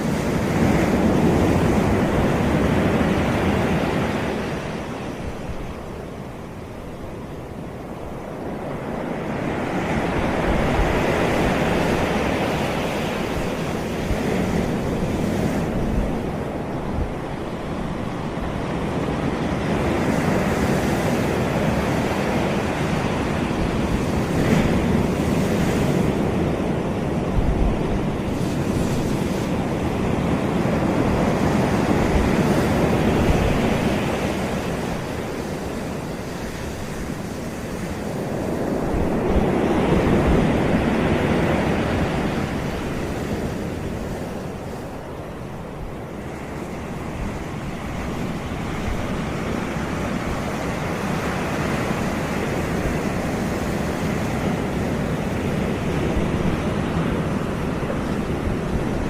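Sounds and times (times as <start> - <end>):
surf breaking on a beach: 0.0 - 59.0
wind buffeting microphone: 0.0 - 59.0.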